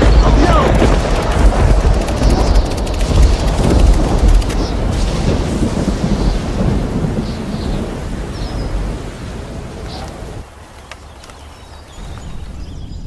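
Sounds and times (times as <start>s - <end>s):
thunder rumbling: 0.0s - 10.6s
falling rain: 0.0s - 13.0s.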